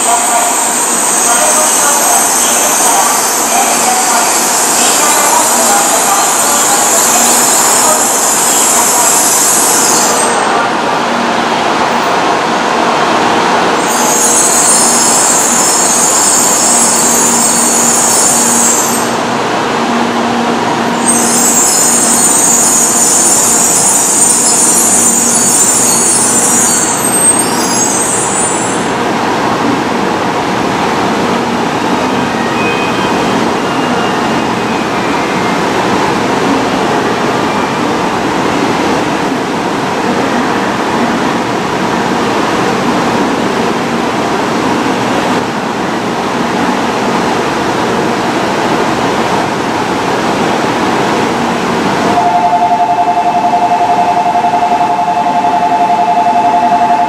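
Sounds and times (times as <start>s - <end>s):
train pulling in humming: 0.0s - 57.0s.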